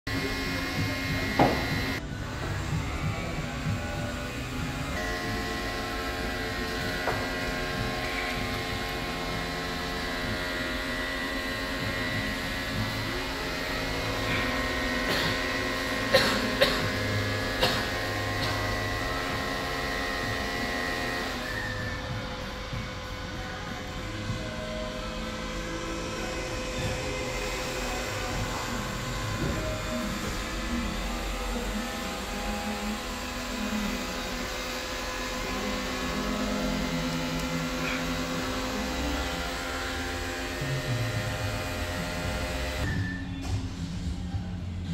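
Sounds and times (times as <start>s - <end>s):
cooling fans whirring: 0.1s - 44.9s
electrical hum with whine: 0.1s - 44.9s.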